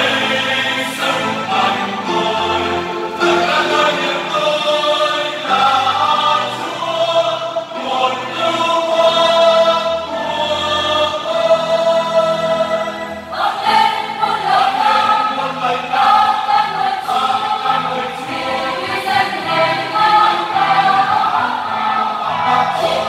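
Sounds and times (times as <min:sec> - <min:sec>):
mixed choir singing a hymn: 0:00.0 - 0:23.0.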